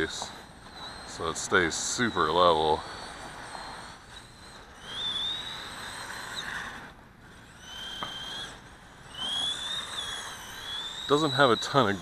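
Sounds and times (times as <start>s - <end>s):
rc truck motor whining: 0.0s - 12.0s.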